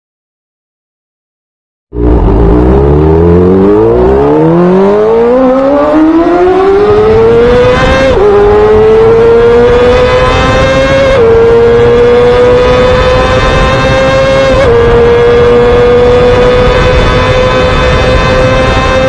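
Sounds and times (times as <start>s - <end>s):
motorcycle engine accelerating: 1.9s - 19.0s.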